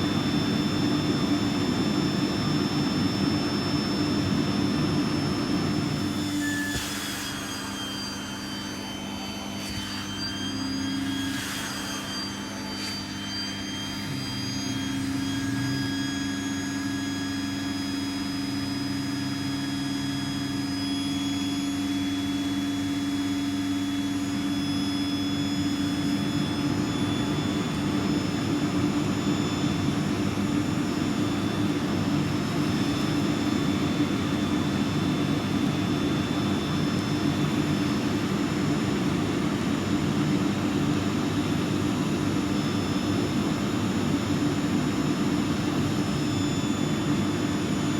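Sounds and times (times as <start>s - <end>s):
vacuum cleaner humming and whining: 0.0s - 47.9s.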